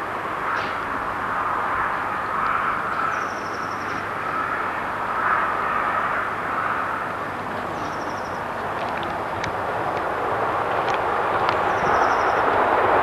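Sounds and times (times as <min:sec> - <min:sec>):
outdoor hiss-like rush: 0:00.0 - 0:13.0.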